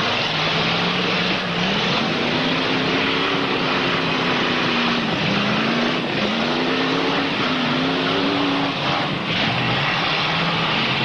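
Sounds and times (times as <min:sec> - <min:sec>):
car engines running hard: 0:00.0 - 0:11.0
engine revving high: 0:00.0 - 0:11.0.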